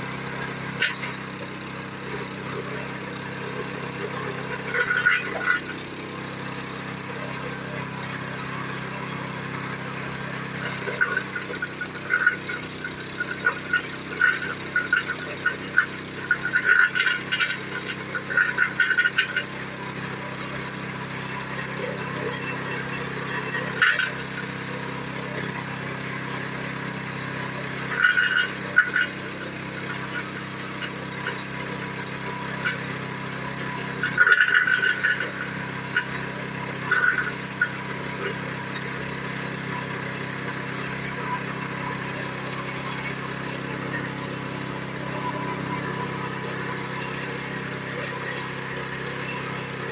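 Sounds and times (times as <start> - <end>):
machine grinding brick: 0.0 - 49.9.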